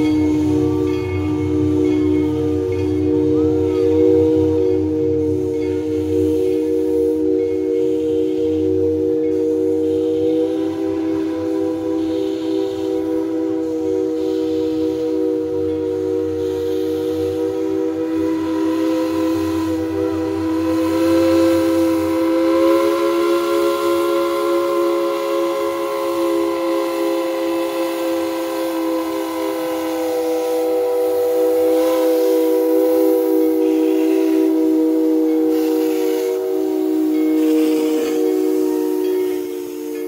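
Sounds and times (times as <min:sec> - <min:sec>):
steam hiss: 0:00.0 - 0:40.0
steam locomotive chime whistle: 0:00.0 - 0:40.0.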